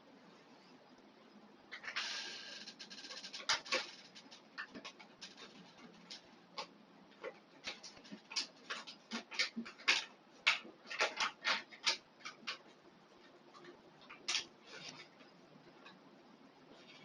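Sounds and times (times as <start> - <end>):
plastic parts scraping and clicking: 1.7 - 16.0.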